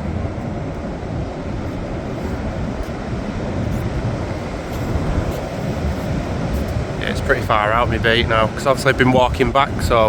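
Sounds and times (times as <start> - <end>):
wind blowing across microphone: 0.0 - 10.0.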